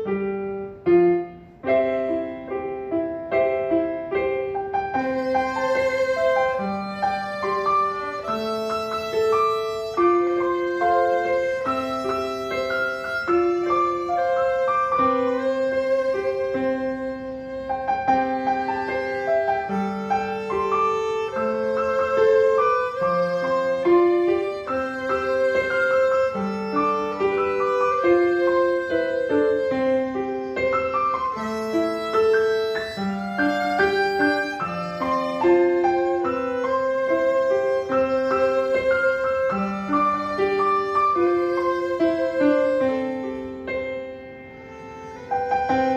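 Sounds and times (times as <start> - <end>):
piano accompaniment: 0.0 - 45.9
violin melody: 0.0 - 45.9.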